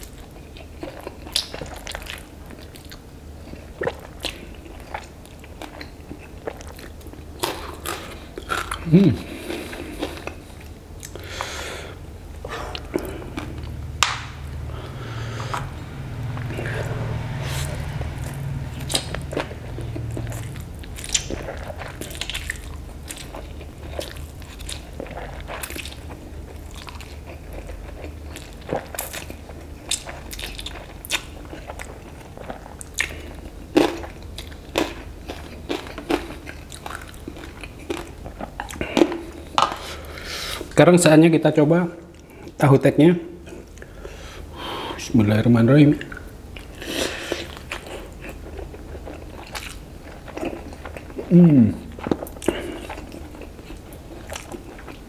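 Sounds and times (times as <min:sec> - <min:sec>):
person chewing noodles: 0:00.0 - 0:40.8, 0:46.1 - 0:55.0.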